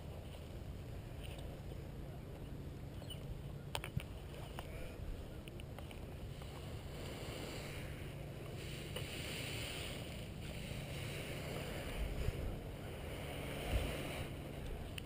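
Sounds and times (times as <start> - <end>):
wind buffeting microphone: 2.8 - 15.0.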